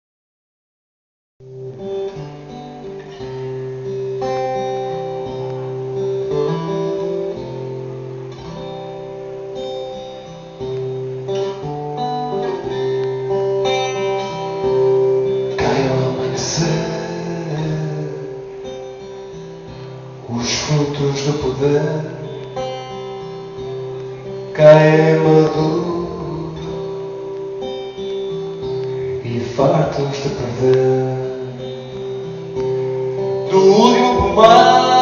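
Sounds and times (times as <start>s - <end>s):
acoustic guitar playing: 1.4s - 35.0s.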